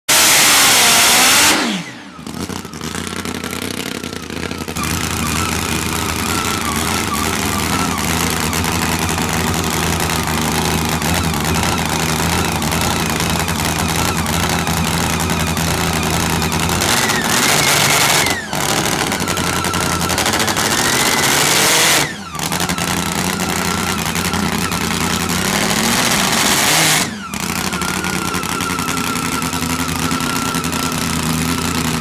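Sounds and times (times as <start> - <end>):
drag motorcycle engine at full throttle: 0.0 - 32.0
engine idling: 0.1 - 32.0.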